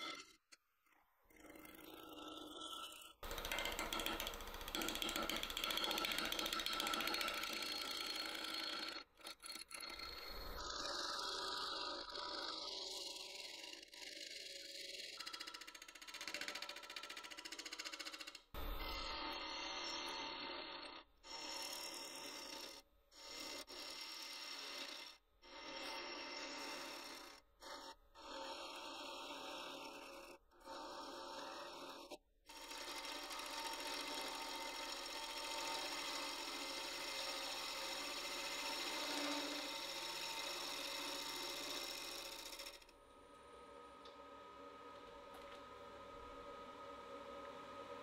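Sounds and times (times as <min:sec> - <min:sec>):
gouge cutting wood on a lathe: 0:01.4 - 0:48.0.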